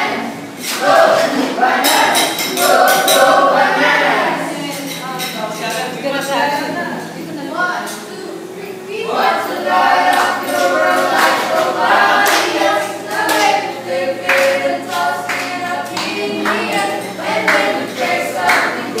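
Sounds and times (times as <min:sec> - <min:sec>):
group singing without instruments: 0:00.0 - 0:05.3, 0:08.4 - 0:19.0.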